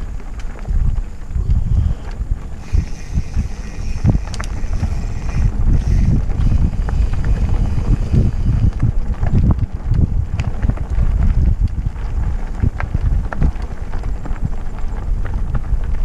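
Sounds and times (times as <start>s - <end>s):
bike rattling over bumps: 0.0s - 16.0s
tyres rumbling on dirt trail: 0.0s - 16.0s
wind buffeting microphone: 0.0s - 16.0s.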